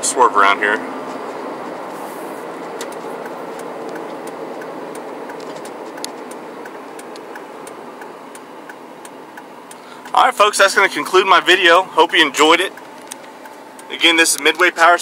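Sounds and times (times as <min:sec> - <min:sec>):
diesel truck cab noise: 0:00.0 - 0:15.0
tyre and road noise: 0:00.0 - 0:15.0
turn signal clicking: 0:01.0 - 0:10.2, 0:11.0 - 0:14.9.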